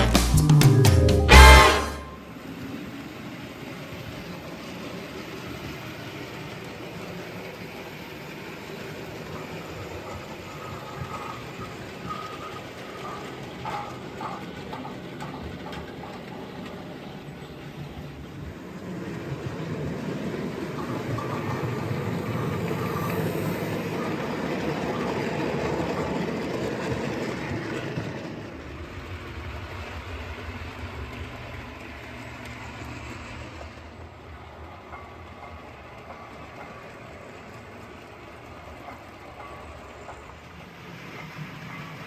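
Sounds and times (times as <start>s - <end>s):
model train running on track: 1.4s - 42.0s.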